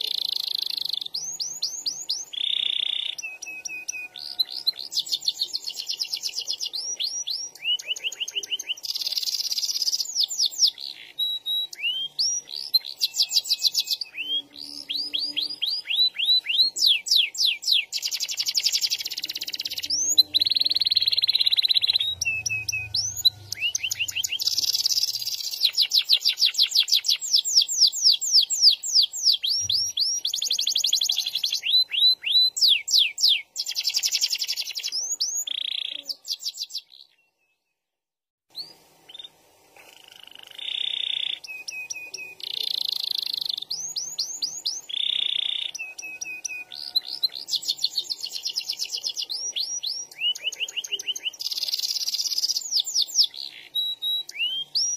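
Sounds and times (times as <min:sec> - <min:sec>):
canary singing trills: 0:00.0 - 0:37.6, 0:38.5 - 0:54.9.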